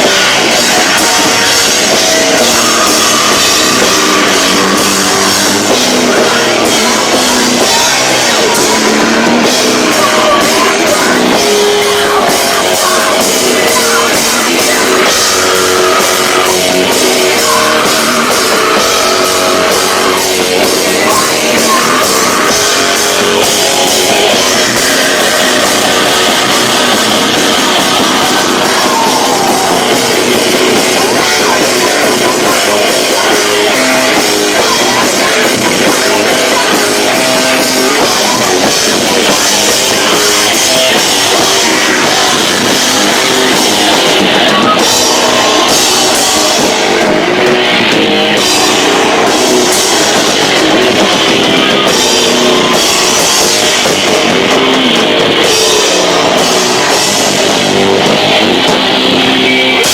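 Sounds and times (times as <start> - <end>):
live rock band: 0.0 - 59.9.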